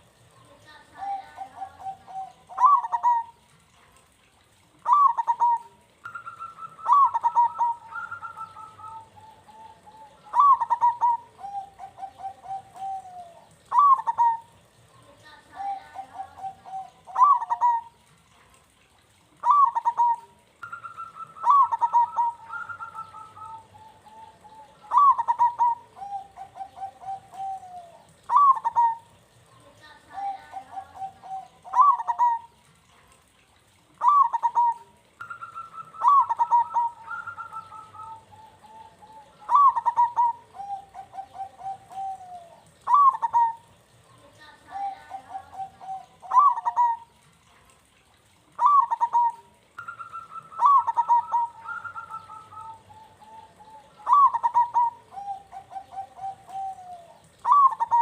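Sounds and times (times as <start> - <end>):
dove cooing trills: 0.0 - 58.0.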